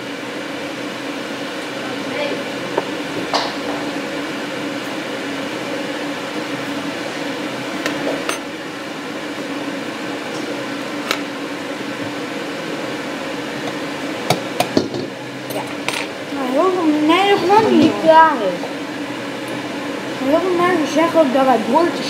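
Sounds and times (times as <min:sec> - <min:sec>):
kitchen appliance humming: 0:00.0 - 0:22.0.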